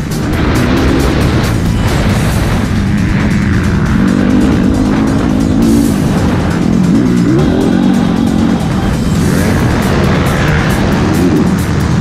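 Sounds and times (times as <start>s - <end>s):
background music: 0.0s - 12.0s
motocross bike engine revving: 0.0s - 12.0s.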